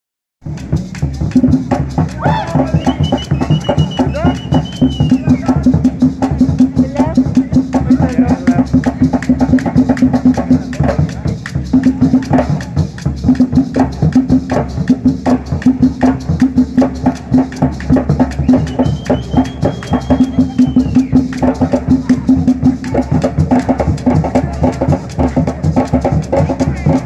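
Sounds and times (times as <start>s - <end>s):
music with fast drum beat: 0.4s - 27.0s.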